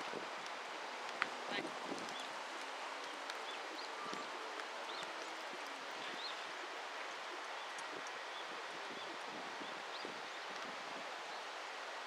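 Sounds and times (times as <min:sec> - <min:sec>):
wind through trees: 0:00.0 - 0:12.0.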